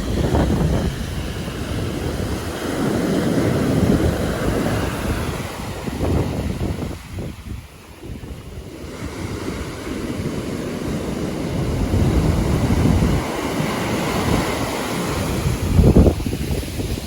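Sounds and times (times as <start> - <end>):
waves washing onto shore: 0.0 - 17.0
wind buffeting microphone: 0.0 - 17.0.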